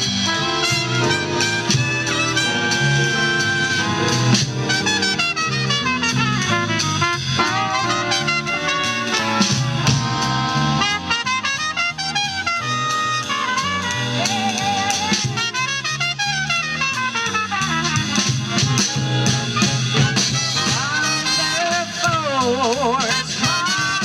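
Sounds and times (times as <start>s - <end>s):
bass and drum kit: 0.0s - 24.0s
big band jazz: 0.0s - 24.0s
horn line: 0.0s - 24.0s.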